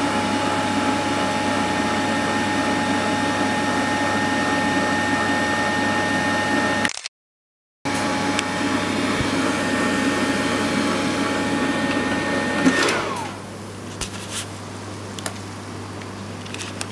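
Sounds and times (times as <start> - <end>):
air fryer fan whining: 0.0 - 6.8, 7.9 - 16.9.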